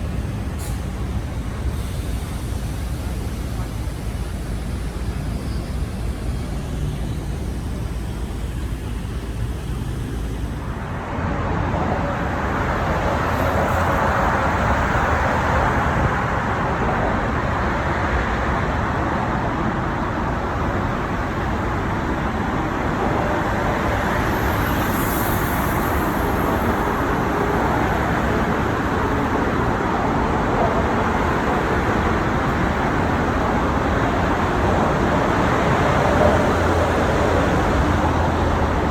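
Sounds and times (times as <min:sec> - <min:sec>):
city street traffic rumble: 0:00.0 - 0:38.9.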